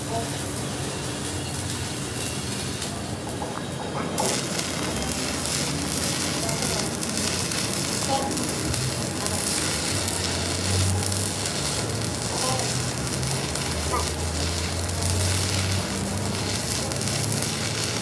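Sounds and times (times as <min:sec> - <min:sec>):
electric arc welding sizzle: 0:00.0 - 0:03.4, 0:04.2 - 0:18.0.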